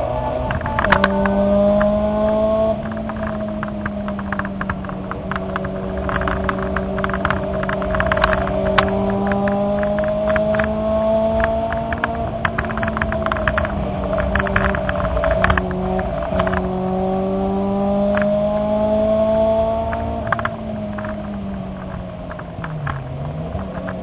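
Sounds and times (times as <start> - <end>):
car engine revving: 0.0 - 24.0
sharp clicks and rattles: 0.2 - 24.0.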